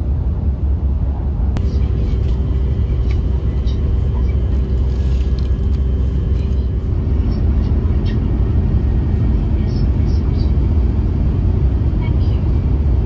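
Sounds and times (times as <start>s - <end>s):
faint steady hum: 0.0s - 13.0s
train low rumble: 0.0s - 13.0s.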